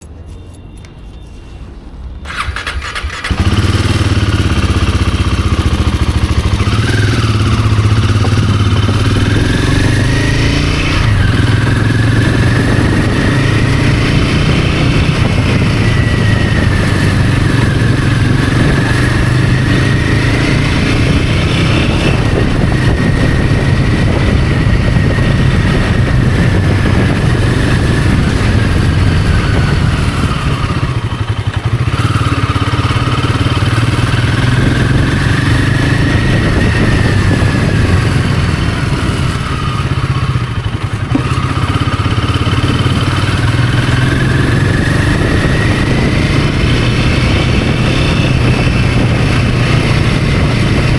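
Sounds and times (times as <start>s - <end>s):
motorcycle engine revving: 2.2s - 50.9s.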